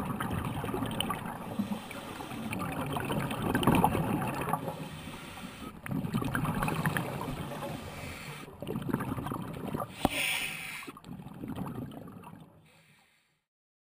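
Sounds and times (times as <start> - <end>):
underwater bubbles gurgling: 0.0 - 12.8.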